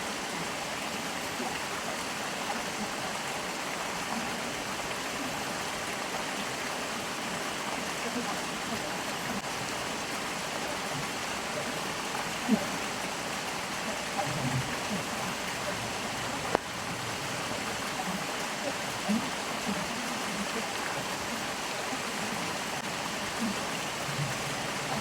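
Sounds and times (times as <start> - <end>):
stream water gurgling: 0.0 - 25.0.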